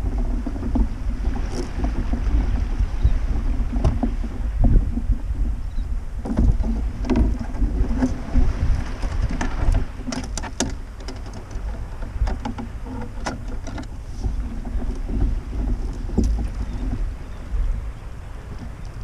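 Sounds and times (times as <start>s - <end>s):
knocks against kayak hull: 0.0s - 17.7s
wind rumble on microphone: 0.0s - 19.0s.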